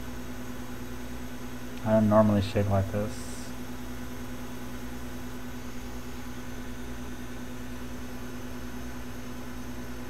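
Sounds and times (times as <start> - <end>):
equipment hum and fan noise: 0.0 - 10.0.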